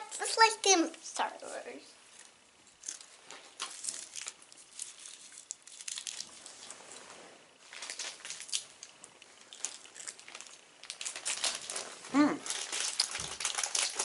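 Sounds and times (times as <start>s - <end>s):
plastic wrapper crinkling: 2.2s - 14.0s.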